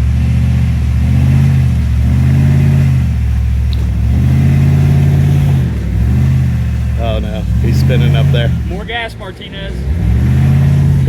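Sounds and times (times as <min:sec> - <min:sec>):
truck engine revving hard: 0:00.0 - 0:11.0
wheels spinning: 0:00.0 - 0:11.0.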